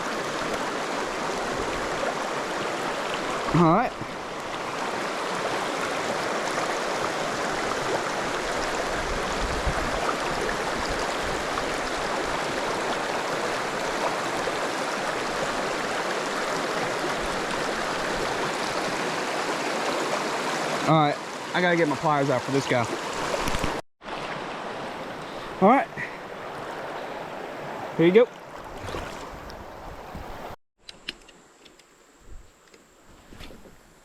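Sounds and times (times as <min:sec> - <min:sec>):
creek water running: 0:00.0 - 0:30.6.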